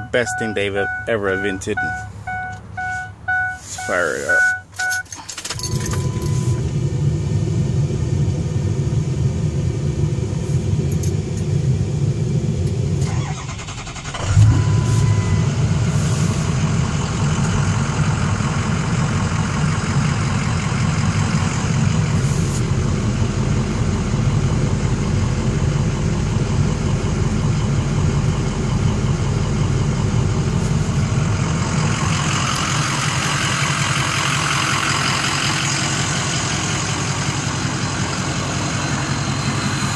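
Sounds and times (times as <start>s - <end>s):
diesel engine starting and idling: 0.0s - 39.9s.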